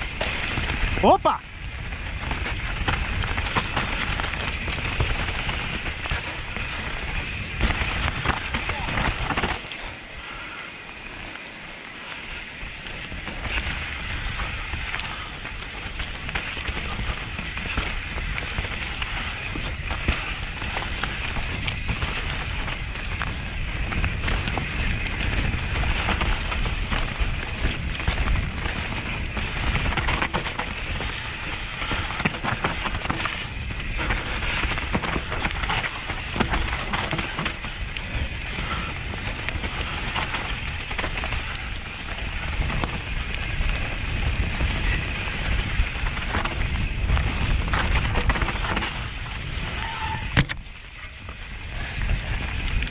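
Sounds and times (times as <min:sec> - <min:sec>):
bike tyres crackling over dry leaves: 0:00.0 - 0:52.9.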